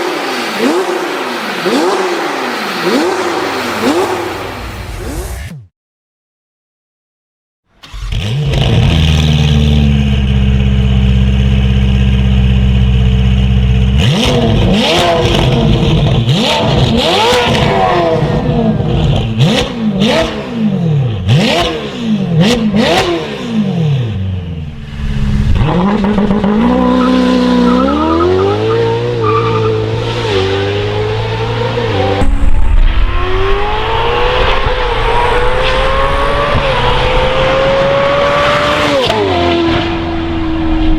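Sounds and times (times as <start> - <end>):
sports car engine revving: 0.0 - 5.4, 7.8 - 40.9.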